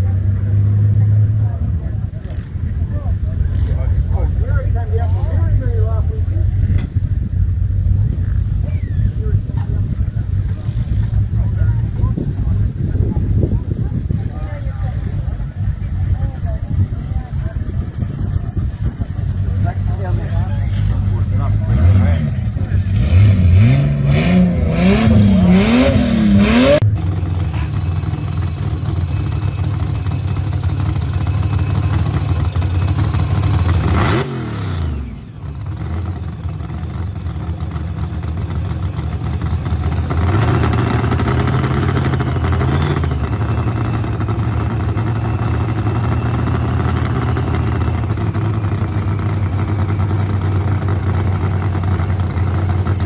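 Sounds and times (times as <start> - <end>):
hot rod engine revving and idling: 0.0 - 53.0.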